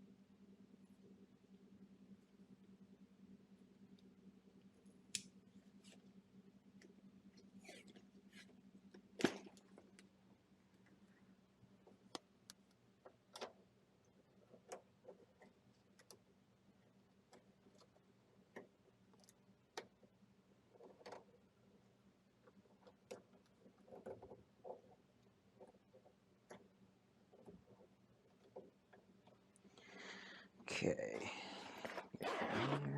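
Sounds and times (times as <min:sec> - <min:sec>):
faint low hum: 0:00.0 - 0:32.9.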